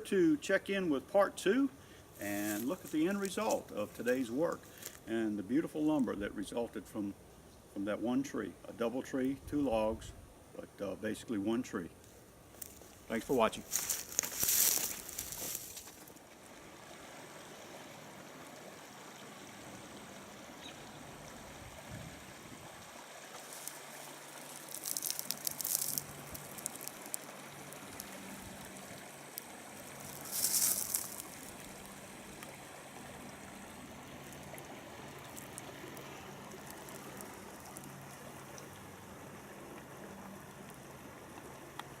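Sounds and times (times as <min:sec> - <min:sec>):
creek water trickling: 0:00.0 - 0:09.4, 0:11.5 - 0:42.0.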